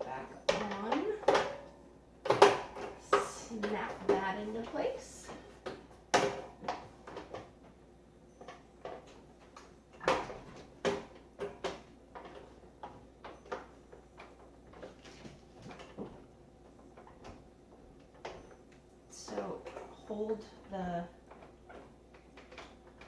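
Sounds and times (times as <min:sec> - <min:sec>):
plastic parts clicking and knocking: 0:00.4 - 0:07.8, 0:08.4 - 0:23.0.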